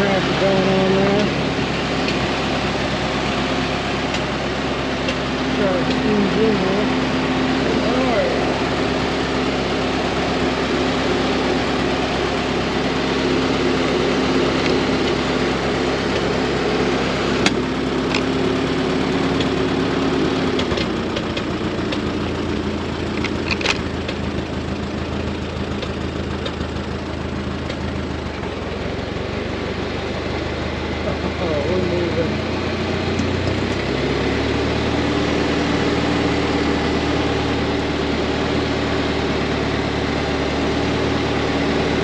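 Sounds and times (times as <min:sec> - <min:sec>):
tractor engine idling: 0:00.0 - 0:42.0.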